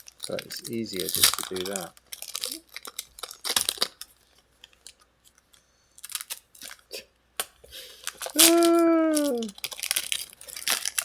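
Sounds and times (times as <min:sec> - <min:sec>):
foil wrapper crinkling: 0:00.0 - 0:06.9, 0:07.9 - 0:11.0.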